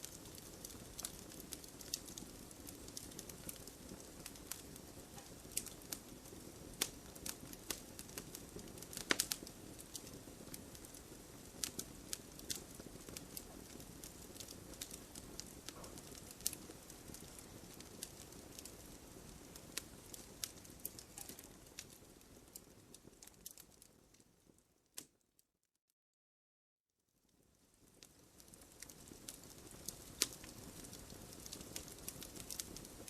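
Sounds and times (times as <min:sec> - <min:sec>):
campfire pops and snaps: 0:00.0 - 0:24.0, 0:28.0 - 0:33.0
low rumble of burning: 0:00.0 - 0:24.6, 0:27.3 - 0:33.0.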